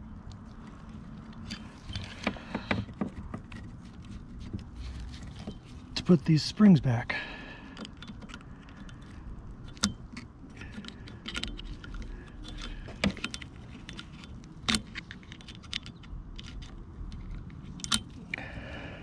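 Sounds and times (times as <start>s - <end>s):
metal pick clicking and scraping: 0.2s - 6.1s, 7.7s - 18.4s.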